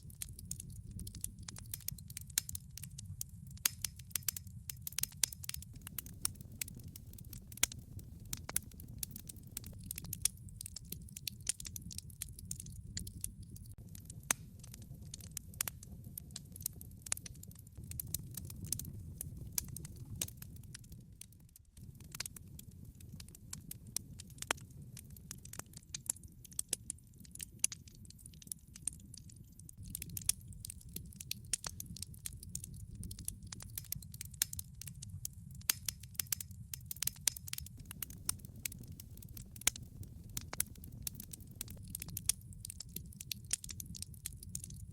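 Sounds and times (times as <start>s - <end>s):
burning logs popping: 0.0s - 44.9s
low rumble of flames: 0.0s - 44.9s
wood fire crackling: 0.0s - 44.9s.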